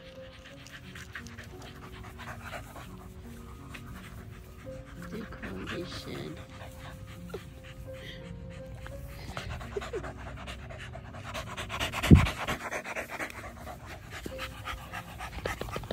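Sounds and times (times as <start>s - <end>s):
dog panting: 0.0s - 15.9s.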